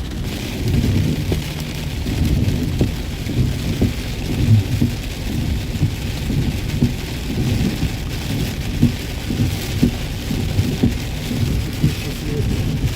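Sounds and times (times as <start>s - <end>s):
low rumble: 0.0s - 12.9s
rain and snow hissing: 0.0s - 12.9s.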